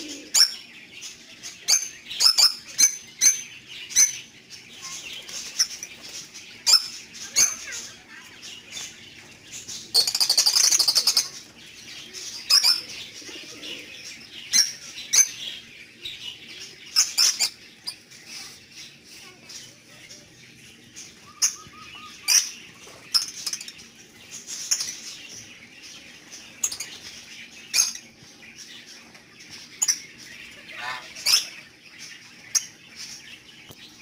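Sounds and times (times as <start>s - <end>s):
lovebirds shrill chirps: 0.0s - 34.0s.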